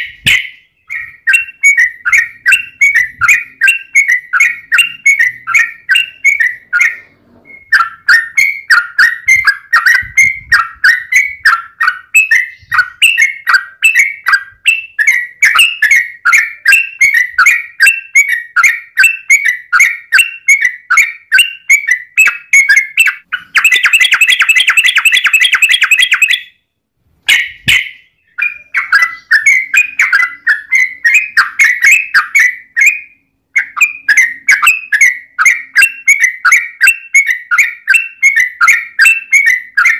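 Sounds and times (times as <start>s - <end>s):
bird rapid repeated chirps: 0.0s - 39.9s.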